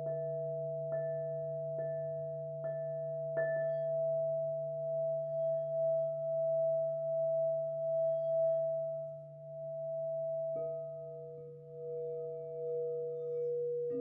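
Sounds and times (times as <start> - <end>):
bowl struck: 0.0 - 14.0
crystal singing bowls ringing: 0.0 - 14.0.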